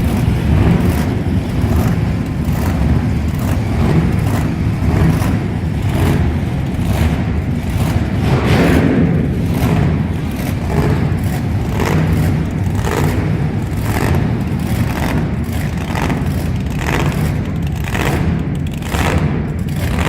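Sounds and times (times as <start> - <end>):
monster truck engines surging: 0.0 - 20.0.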